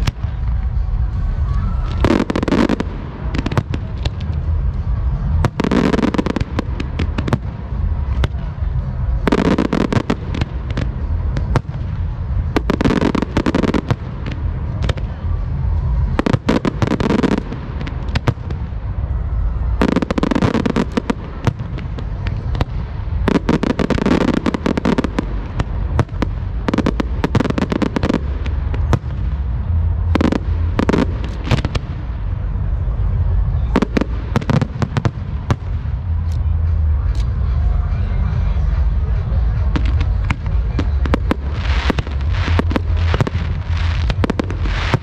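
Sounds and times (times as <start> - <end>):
fireworks bursting: 0.0 - 45.0
low rumble: 0.0 - 45.0.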